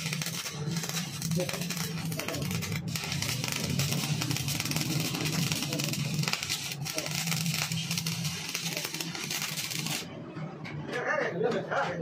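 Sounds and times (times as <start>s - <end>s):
welding arc crackling: 0.0s - 10.1s.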